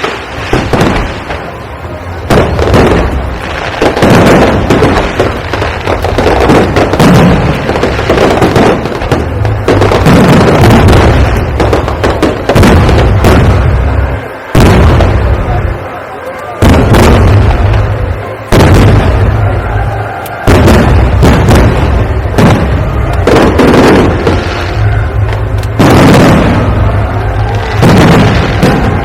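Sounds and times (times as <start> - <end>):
fireworks bangs and booms: 0.0 - 29.0.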